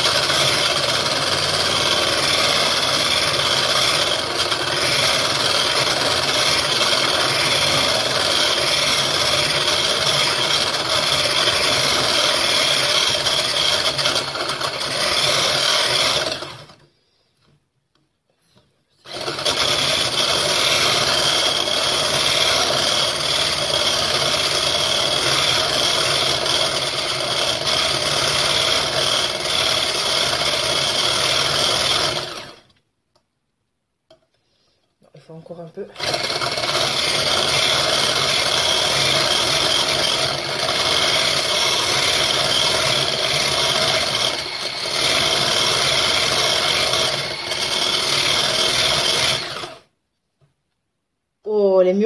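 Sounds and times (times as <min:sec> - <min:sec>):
electric hand blender whirring: 0:00.0 - 0:16.8, 0:19.0 - 0:32.7, 0:36.0 - 0:49.9.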